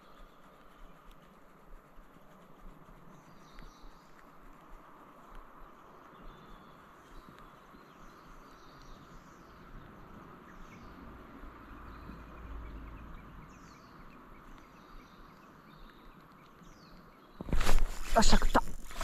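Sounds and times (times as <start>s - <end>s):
birds chirping: 0.0s - 19.0s
steady outdoor hiss: 0.0s - 19.0s.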